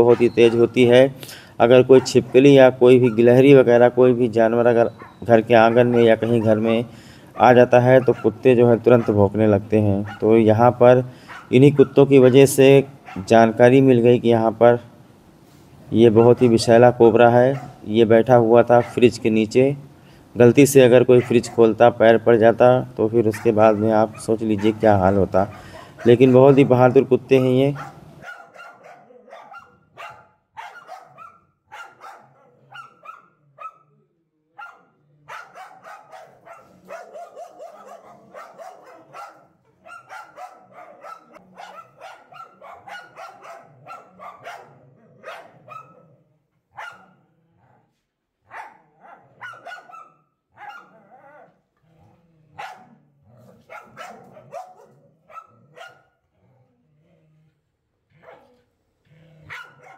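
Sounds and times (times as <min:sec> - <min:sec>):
dogs barking: 0:00.0 - 0:13.6, 0:16.0 - 0:17.9, 0:18.5 - 0:19.4, 0:20.8 - 0:22.1, 0:23.2 - 0:47.3, 0:48.5 - 0:51.6, 0:52.5 - 0:56.2, 0:58.1 - 0:58.6, 0:59.2 - 0:59.9.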